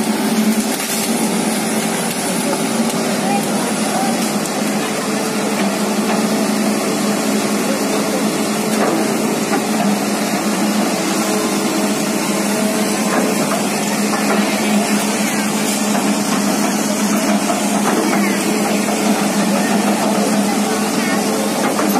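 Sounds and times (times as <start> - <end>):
motor humming: 0.0 - 21.9.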